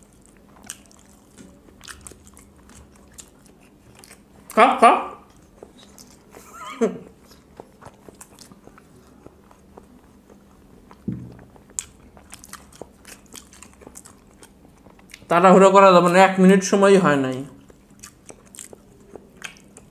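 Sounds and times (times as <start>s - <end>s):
chewing and mouth noises: 0.0s - 4.6s, 5.2s - 15.4s, 17.5s - 19.9s.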